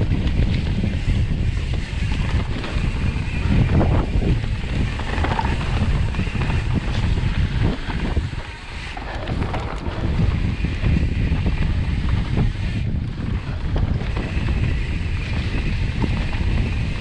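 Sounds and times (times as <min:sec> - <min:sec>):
bike clattering over bumps: 0:00.0 - 0:17.0
tyres rumbling over dirt: 0:00.0 - 0:17.0
wind buffeting microphone: 0:00.0 - 0:17.0.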